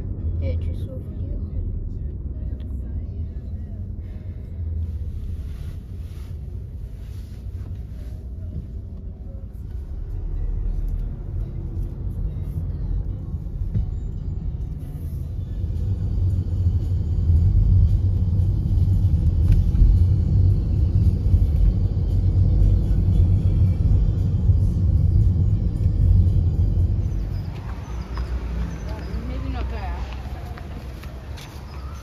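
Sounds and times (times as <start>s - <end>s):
car cabin road and engine rumble: 0.0s - 32.0s.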